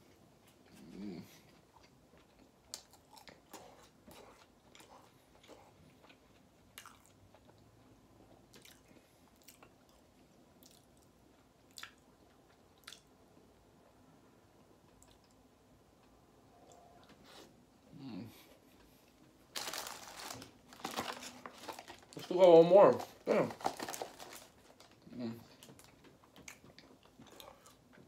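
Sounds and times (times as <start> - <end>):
chewing food: 0.4 - 13.9, 18.7 - 28.0.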